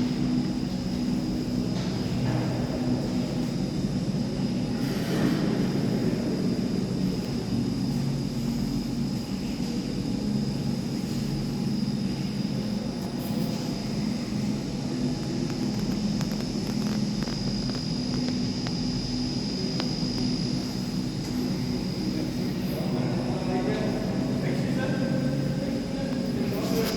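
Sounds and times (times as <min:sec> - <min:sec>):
high whine: 0:00.0 - 0:26.9
machinery drone: 0:00.0 - 0:26.9.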